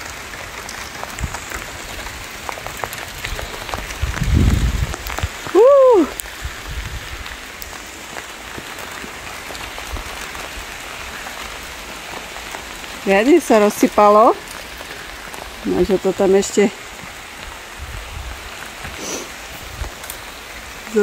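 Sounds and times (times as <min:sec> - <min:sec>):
hail pellets pattering: 0:00.0 - 0:21.0.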